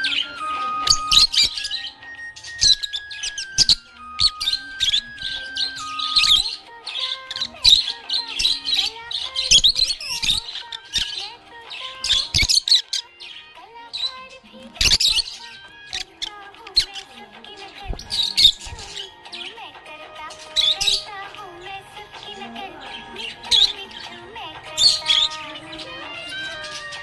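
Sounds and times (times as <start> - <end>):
budgerigar chirping and warbling: 0.0 - 27.0.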